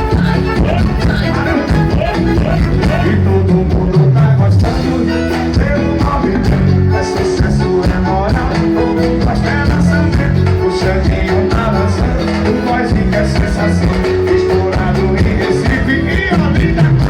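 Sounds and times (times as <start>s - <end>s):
live band music with steady beat: 0.0s - 17.0s.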